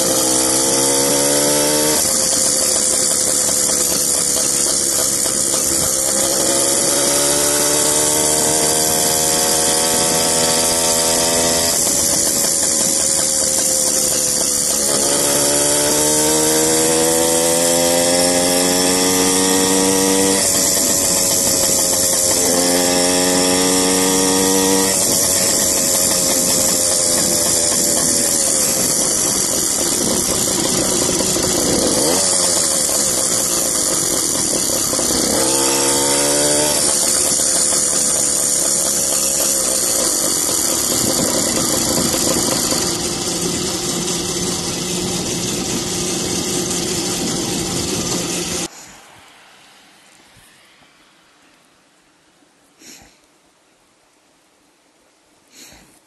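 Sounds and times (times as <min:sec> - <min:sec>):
two-stroke bicycle engine: 0:00.0 - 0:48.9.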